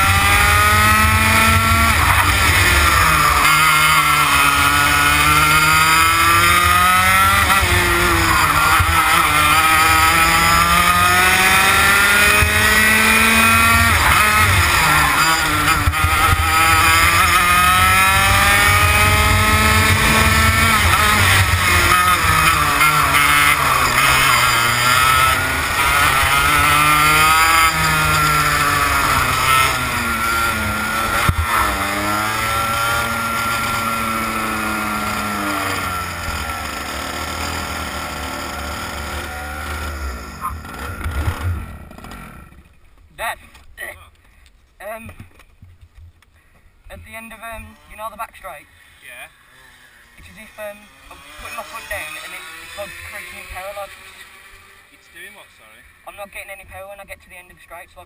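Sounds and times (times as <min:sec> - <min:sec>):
kart engine revving: 0:00.0 - 0:42.8, 0:47.2 - 0:56.6.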